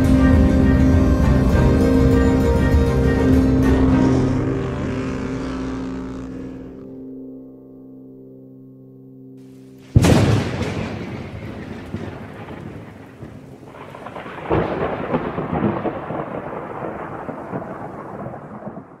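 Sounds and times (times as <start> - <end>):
steady rain: 0.0 - 6.3, 9.5 - 19.0
thunder rumbling: 0.0 - 6.8, 9.8 - 19.0.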